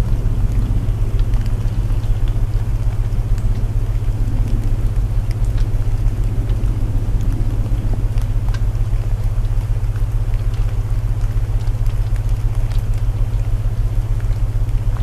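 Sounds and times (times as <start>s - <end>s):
low binaural tones humming: 0.0s - 15.0s
rain hiss: 0.0s - 15.0s
wood crackling in fireplace: 0.0s - 15.0s.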